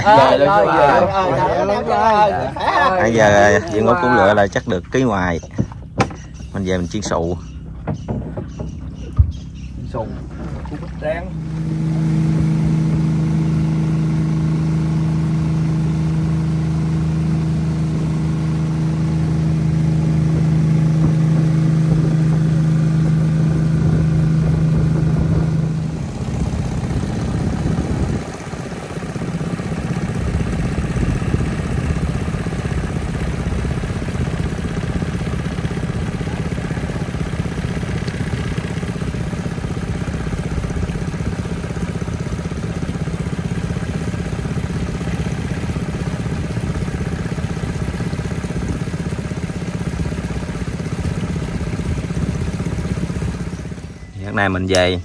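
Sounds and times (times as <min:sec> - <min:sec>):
small engine humming: 0:00.0 - 0:55.0.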